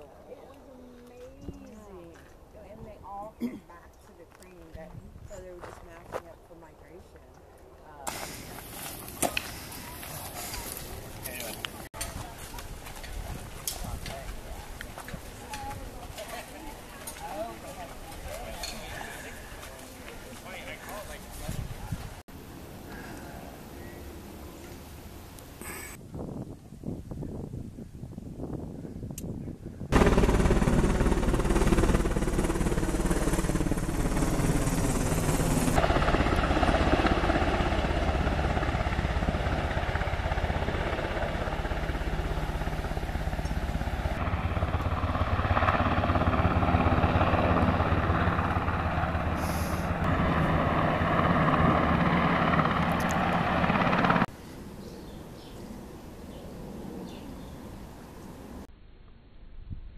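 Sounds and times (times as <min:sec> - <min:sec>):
helicopter flying overhead: 0:00.0 - 0:25.2, 0:29.9 - 0:58.6.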